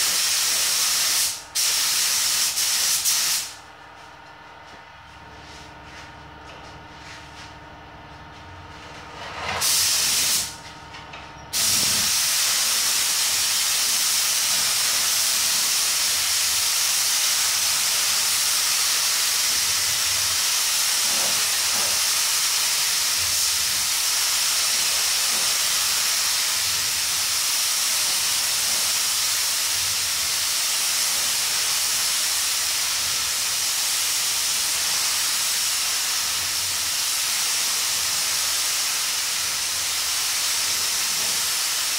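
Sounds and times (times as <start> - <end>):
spray gun hissing: 0.0 - 3.6, 9.6 - 10.6, 11.5 - 41.9.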